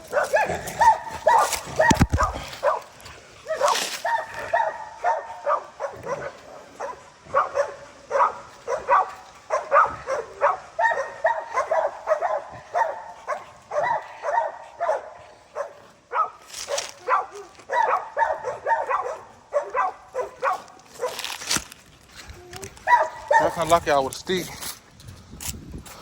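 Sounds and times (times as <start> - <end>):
dogs barking and yelping: 0.0 - 23.9.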